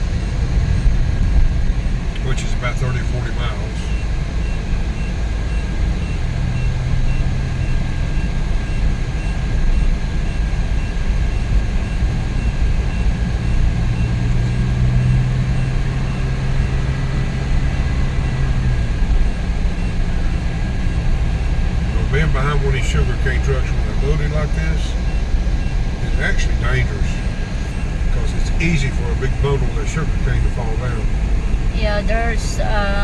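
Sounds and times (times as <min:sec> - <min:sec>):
road and wind rumble: 0:00.0 - 0:33.0
van engine hum: 0:00.0 - 0:33.0.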